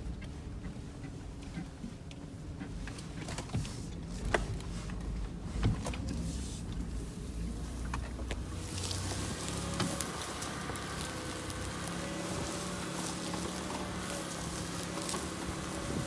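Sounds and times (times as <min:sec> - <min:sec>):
road and engine noise: 0:00.0 - 0:16.0.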